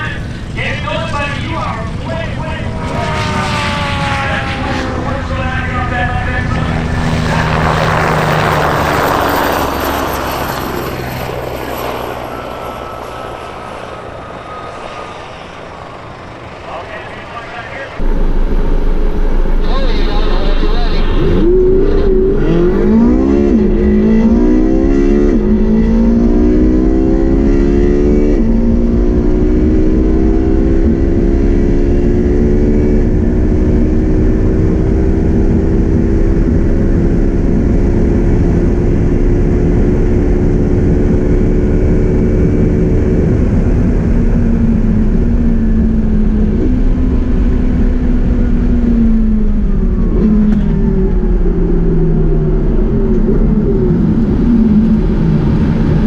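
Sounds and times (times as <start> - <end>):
car engine at full throttle: 0.0 - 56.0
wind and road noise: 0.0 - 56.0.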